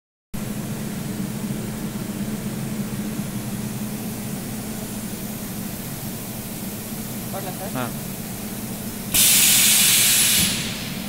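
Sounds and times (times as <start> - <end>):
machinery hum: 0.4 - 11.0.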